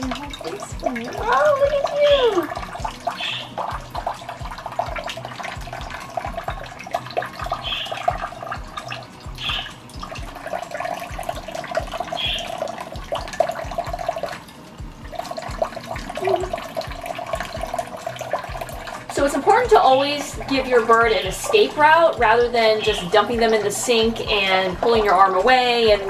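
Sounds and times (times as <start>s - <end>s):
faucet running into steel sink: 0.0s - 26.0s.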